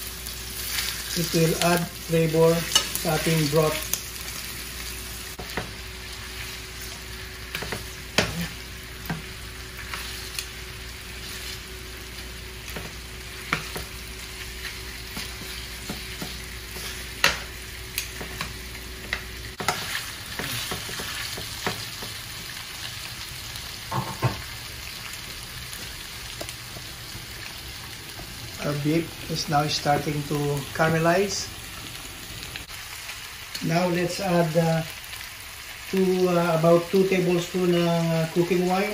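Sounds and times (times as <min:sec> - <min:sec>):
meat sizzling in hot oil: 0:00.0 - 0:38.9.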